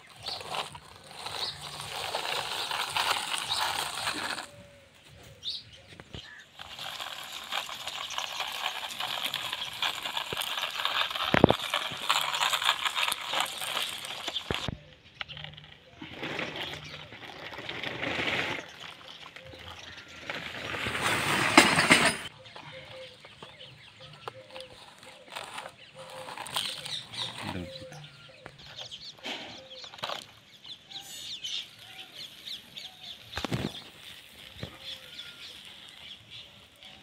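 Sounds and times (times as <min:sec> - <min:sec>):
toy wheels crunching on sand: 0:00.0 - 0:37.0.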